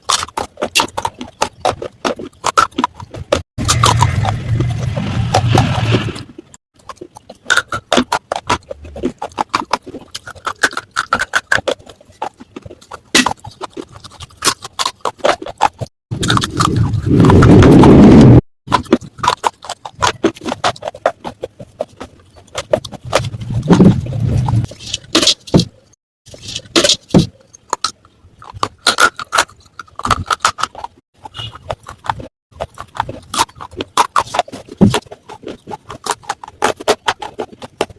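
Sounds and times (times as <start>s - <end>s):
clay pieces crunched and chewed: 0.0s - 5.9s, 6.8s - 17.8s, 18.7s - 25.6s, 26.3s - 37.9s.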